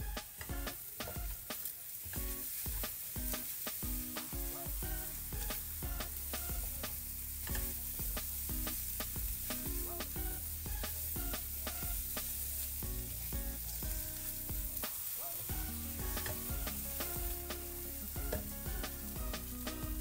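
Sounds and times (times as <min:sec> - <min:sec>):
background music: 0:00.0 - 0:20.0
food sizzling in a wok: 0:00.0 - 0:20.0.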